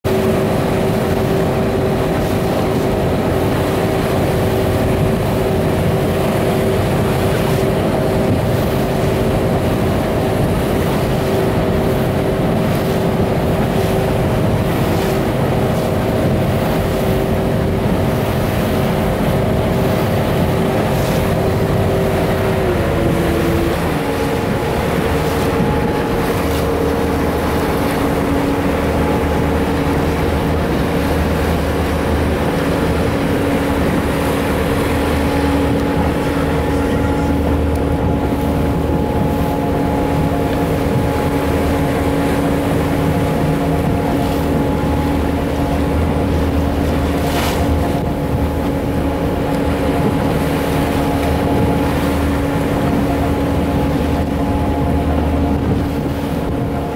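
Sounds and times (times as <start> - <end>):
motorboat engine droning: 0.0 - 56.9.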